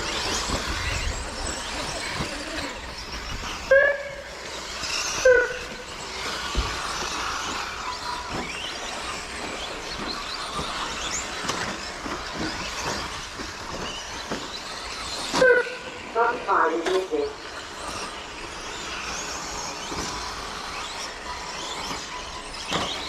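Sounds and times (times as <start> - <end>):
electric motors whining: 0.0 - 23.0
tyre and drivetrain noise: 0.0 - 23.0.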